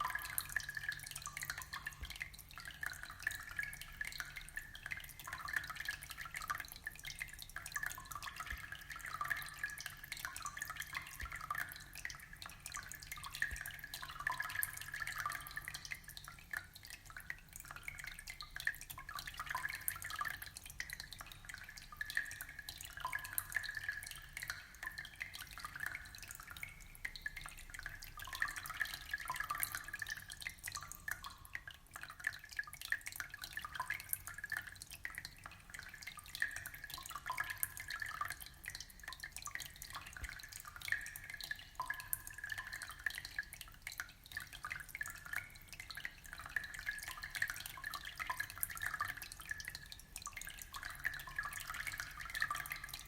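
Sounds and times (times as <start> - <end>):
water trickling and dripping: 0.0 - 53.0.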